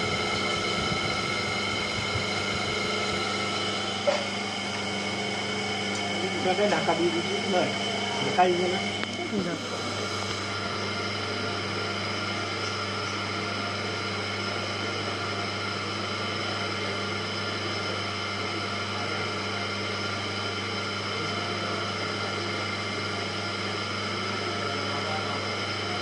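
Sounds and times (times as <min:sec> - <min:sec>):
potter's wheel motor humming: 0:00.0 - 0:26.0.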